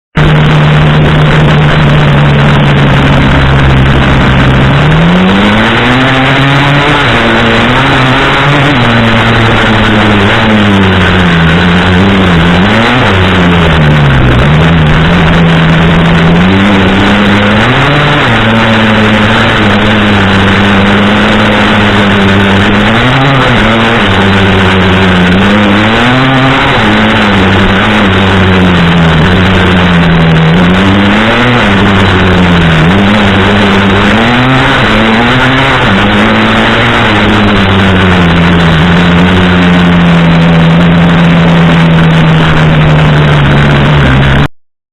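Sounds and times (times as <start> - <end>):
dirt bike engine revving: 0.1 - 44.6.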